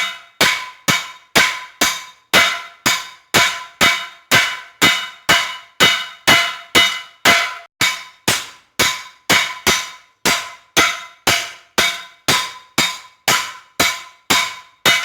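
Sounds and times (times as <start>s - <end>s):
hammer ringing on hot steel: 0.0s - 15.0s.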